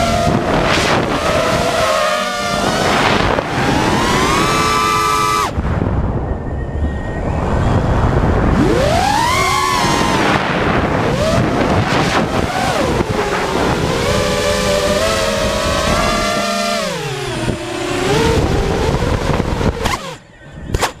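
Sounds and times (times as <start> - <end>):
drone motors whining: 0.0 - 21.0
wind noise: 0.0 - 21.0.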